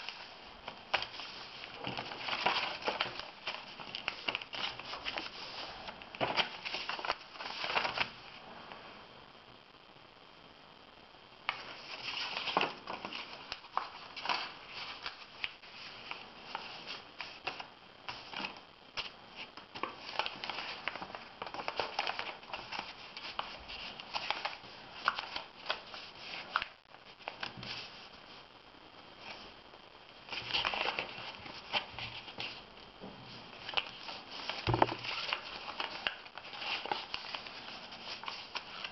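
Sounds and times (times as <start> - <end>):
paper rustling and crackling: 0.0 - 8.2, 11.5 - 28.4, 30.3 - 38.9
sharp paper crinkles: 0.0 - 8.2, 11.5 - 28.1, 30.3 - 32.6, 33.3 - 38.9.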